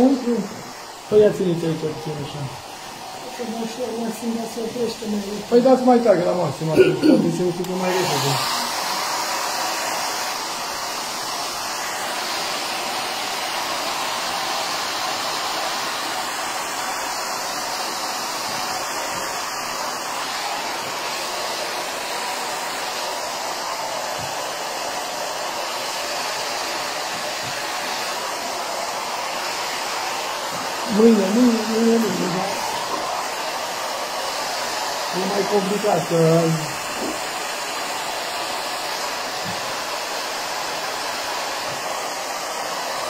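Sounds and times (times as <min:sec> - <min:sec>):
hair dryer running: 0:00.0 - 0:43.0.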